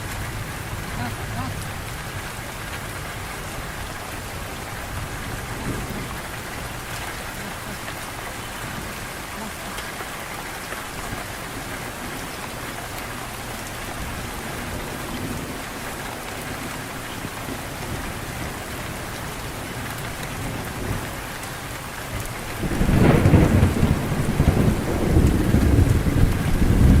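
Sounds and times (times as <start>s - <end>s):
low rumble of thunder: 0.0s - 27.0s
rain falling: 0.0s - 27.0s.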